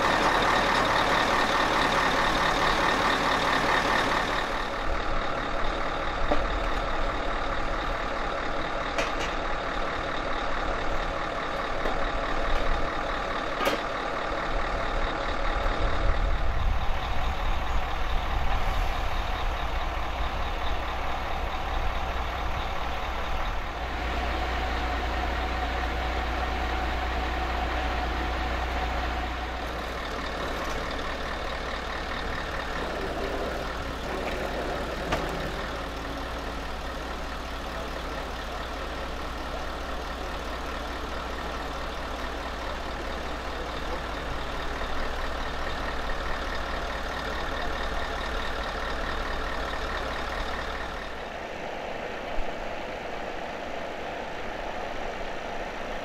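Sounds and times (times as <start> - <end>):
truck diesel engines idling: 0.0 - 56.0.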